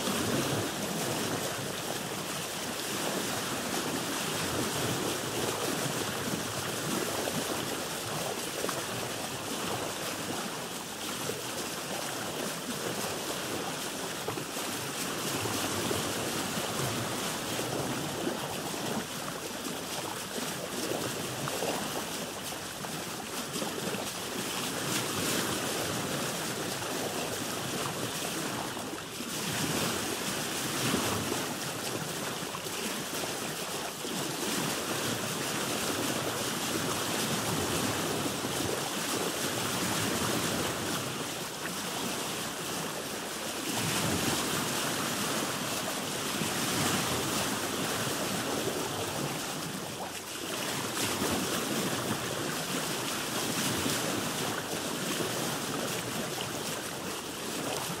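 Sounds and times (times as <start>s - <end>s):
water lapping against boat hull: 0.0s - 58.0s.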